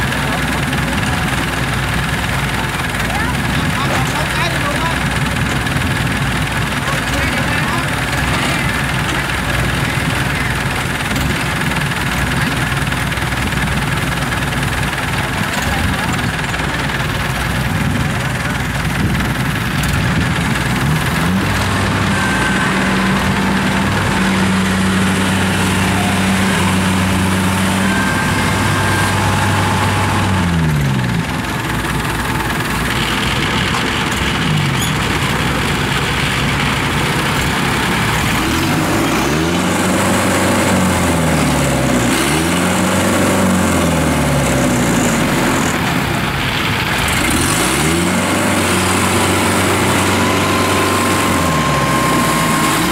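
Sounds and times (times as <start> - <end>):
tracked carrier engine revving: 0.0 - 52.9.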